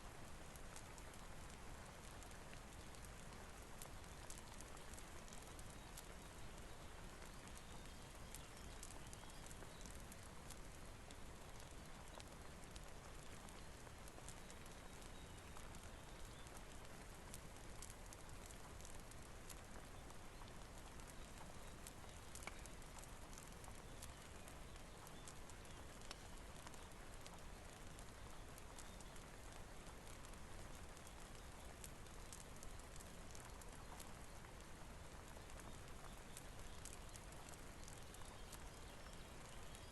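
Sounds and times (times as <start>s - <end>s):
fireplace crackling: 0.0s - 39.9s
steady rain: 0.0s - 39.9s.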